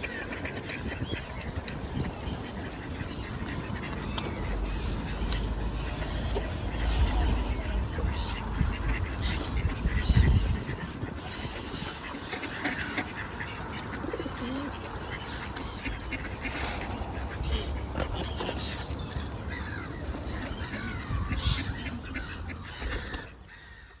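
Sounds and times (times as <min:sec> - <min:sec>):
waterfowl calling: 0:00.0 - 0:24.0.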